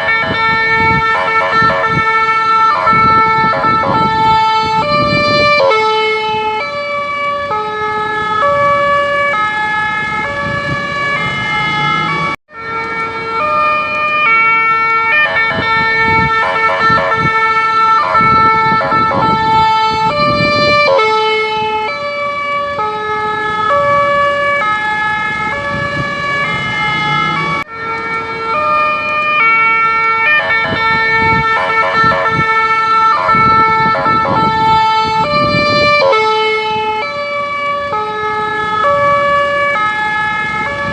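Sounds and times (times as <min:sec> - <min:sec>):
ambulance siren: 0:00.0 - 0:40.9.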